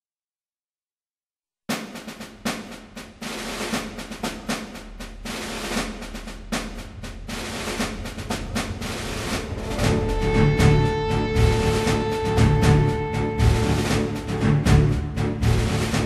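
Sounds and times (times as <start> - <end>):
snare drum hits and rolls: 1.7 - 16.0.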